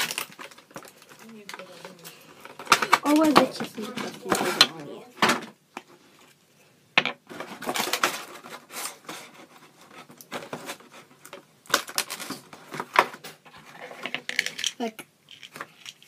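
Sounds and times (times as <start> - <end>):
plastic packaging clattering and clicking: 0.0 - 5.6, 7.2 - 16.0.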